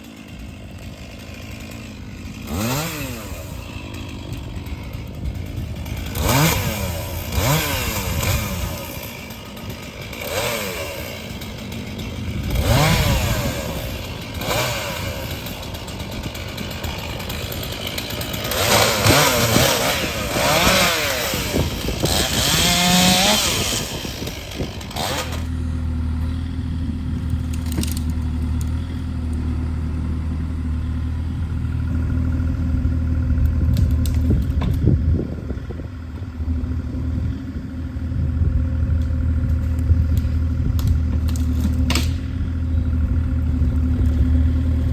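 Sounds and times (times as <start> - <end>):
chainsaw revving cutting wood: 0.0 - 37.0, 38.9 - 44.9
diesel engine idling: 0.0 - 44.9.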